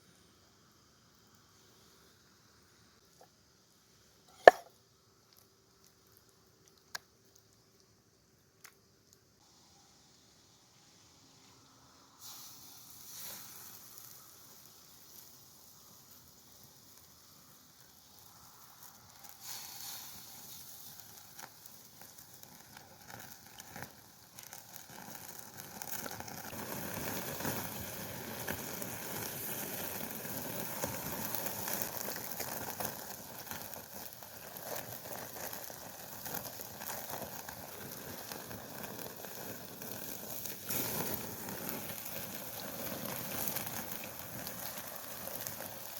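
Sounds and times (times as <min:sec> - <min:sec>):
fire crackling: 0:00.0 - 0:45.9
meat sizzling over campfire: 0:00.0 - 0:45.9.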